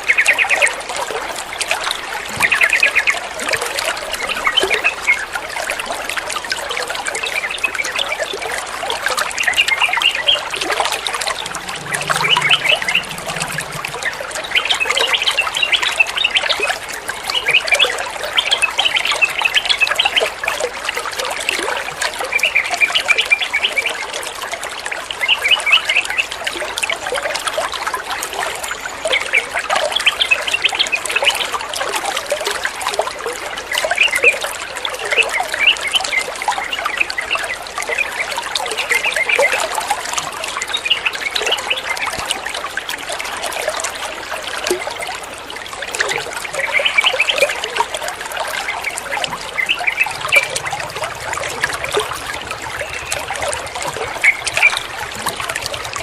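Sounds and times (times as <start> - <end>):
water trickling: 3.3 - 25.3, 30.8 - 56.0.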